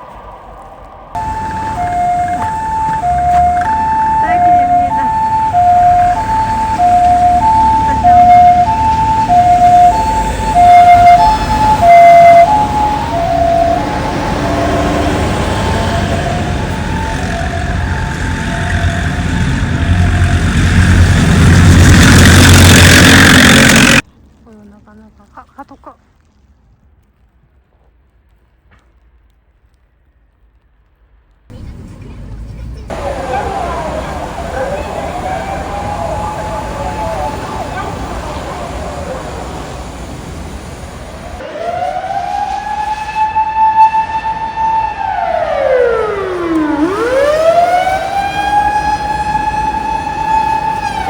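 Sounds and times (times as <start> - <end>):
low traffic rumble: 0.0 - 51.0
two-tone ambulance siren: 1.1 - 24.0, 32.9 - 51.0.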